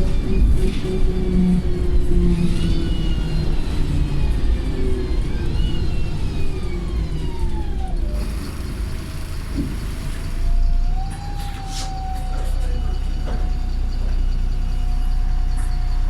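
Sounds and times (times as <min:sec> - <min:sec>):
bus engine rumble: 0:00.0 - 0:16.0
gearbox whine: 0:00.0 - 0:16.0.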